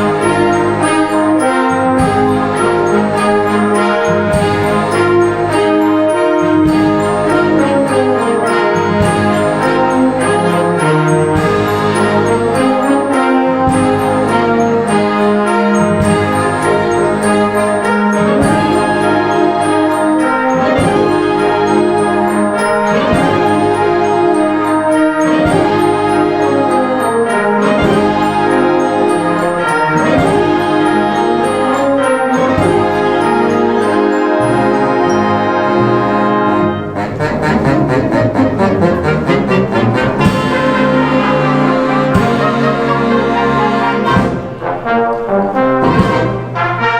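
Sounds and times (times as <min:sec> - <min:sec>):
brass ensemble playing chords: 0:00.0 - 0:46.9.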